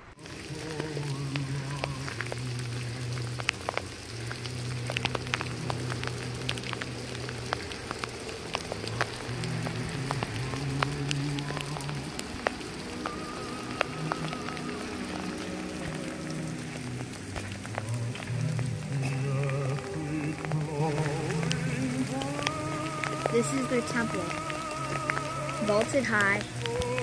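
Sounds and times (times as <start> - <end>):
low steady hum: 0.0 - 27.0
rain drips ticking: 0.0 - 27.0
soft rain patter: 0.0 - 27.0.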